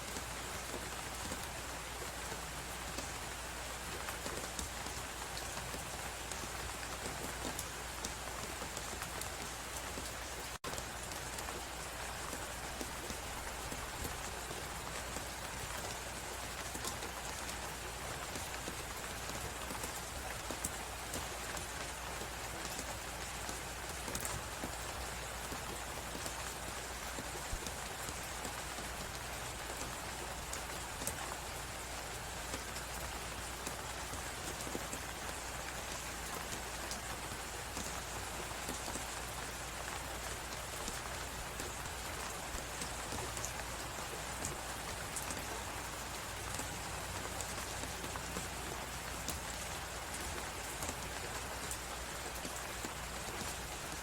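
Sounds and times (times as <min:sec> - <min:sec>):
wind and snowstorm hiss: 0:00.0 - 0:54.0.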